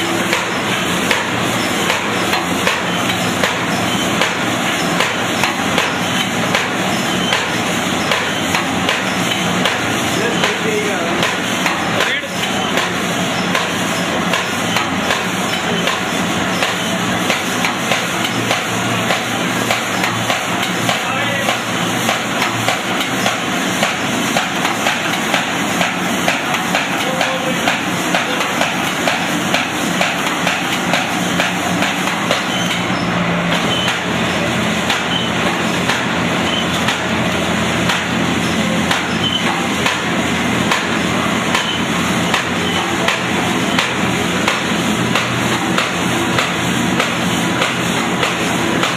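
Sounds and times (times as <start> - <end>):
machine clattering: 0.0 - 48.9.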